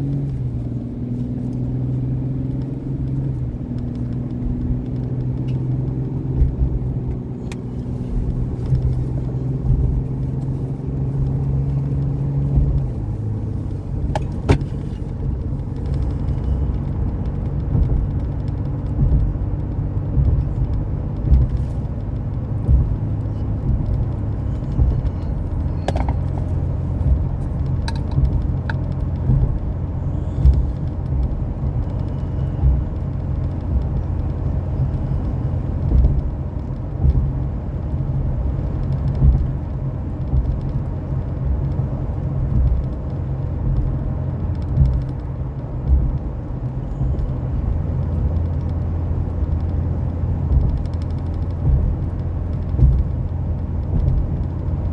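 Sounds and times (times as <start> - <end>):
road and engine rumble: 0.0 - 54.9
vehicle bumps: 3.6 - 37.4, 41.6 - 54.9.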